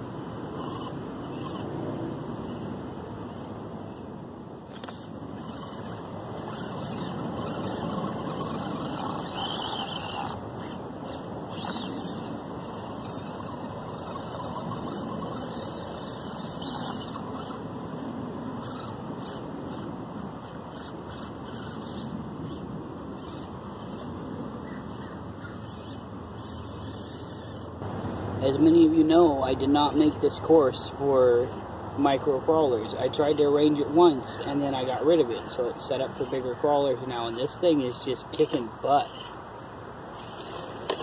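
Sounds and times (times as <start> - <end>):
toy crawler motor whining: 0.5 - 41.0.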